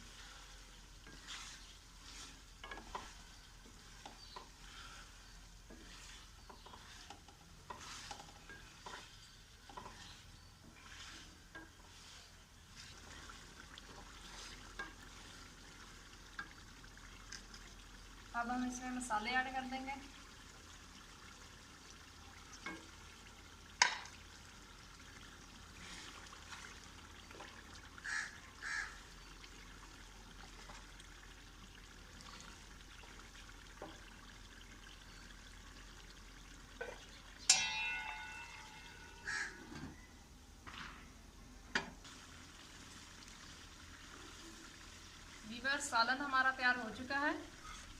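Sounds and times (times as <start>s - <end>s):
curry sizzling in pot: 0.0s - 47.9s.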